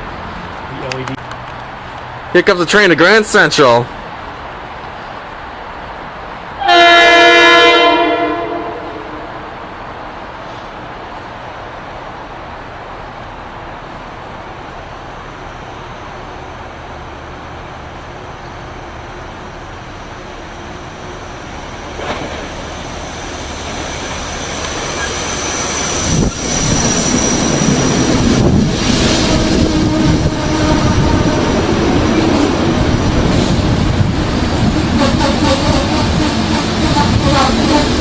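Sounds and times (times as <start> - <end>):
commuter train rumbling past: 0.0 - 38.0
rails whining: 3.9 - 38.0.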